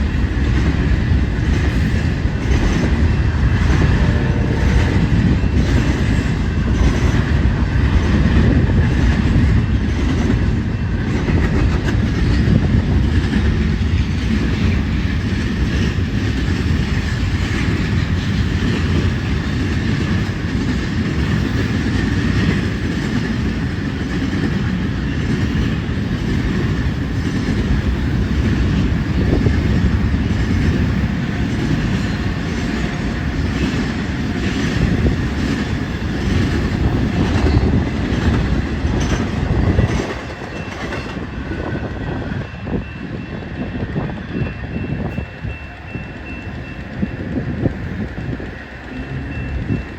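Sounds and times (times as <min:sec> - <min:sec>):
wheels clicking over rail joints: 0:00.0 - 0:42.0
train rumbling past: 0:00.0 - 0:49.9.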